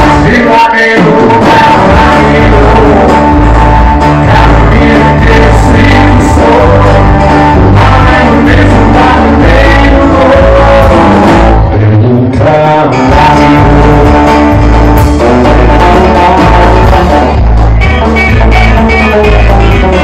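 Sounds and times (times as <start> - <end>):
bass guitar: 0.0 - 20.0
electric guitars: 0.0 - 20.0.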